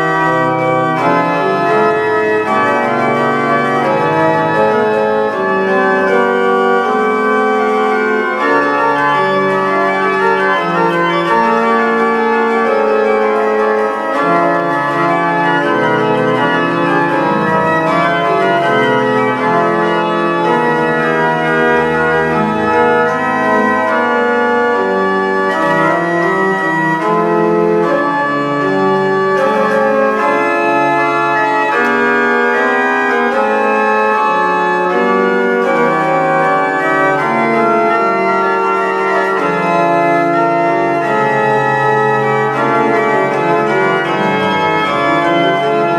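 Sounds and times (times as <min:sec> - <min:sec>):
organ chords: 0:00.0 - 0:45.9.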